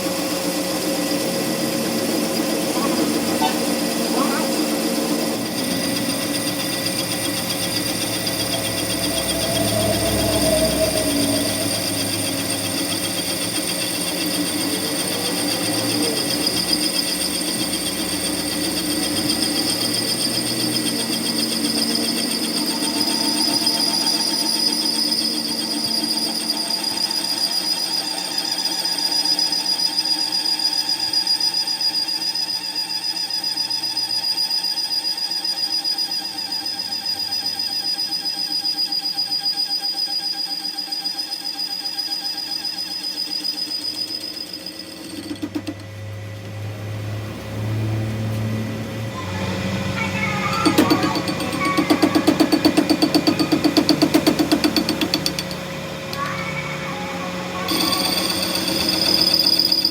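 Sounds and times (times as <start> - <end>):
machine tool whining and rattling: 0.0 - 59.9.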